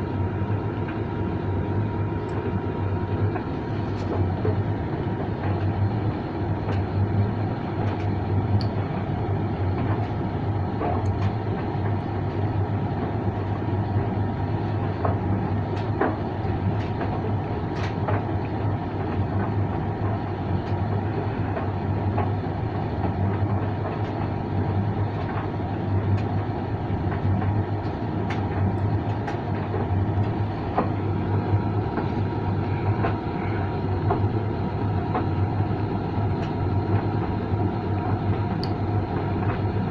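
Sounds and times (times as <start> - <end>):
tumble dryer humming: 0.0 - 39.9.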